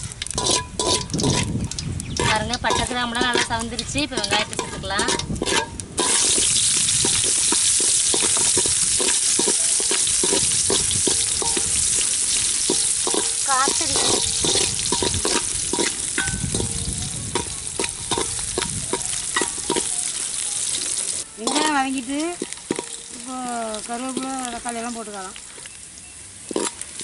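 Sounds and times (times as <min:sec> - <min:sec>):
metal ladle scraping a pot: 0:00.0 - 0:20.2, 0:21.4 - 0:23.2
onions sizzling in hot oil: 0:00.0 - 0:27.0.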